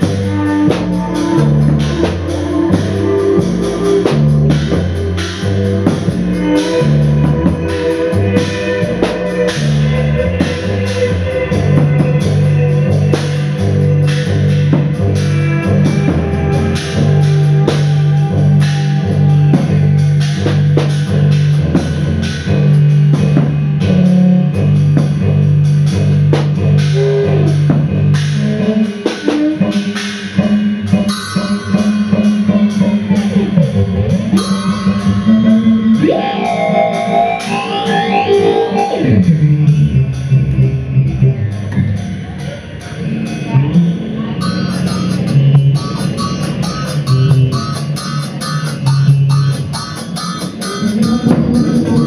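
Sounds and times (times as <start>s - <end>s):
drum kit playing rapid strokes: 0.0s - 52.0s
guitar: 0.0s - 52.0s
low pulsed bass note: 0.0s - 52.0s.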